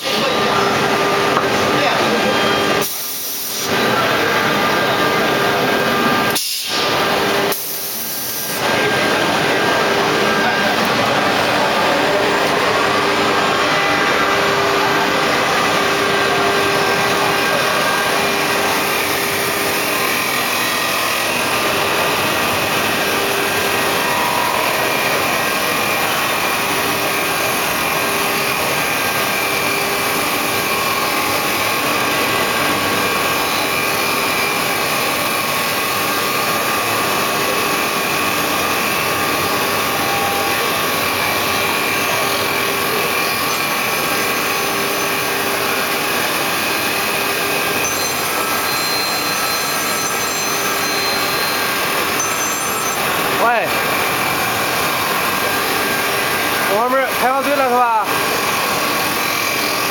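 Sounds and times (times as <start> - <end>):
wood lathe cutting: 0.0 - 59.9.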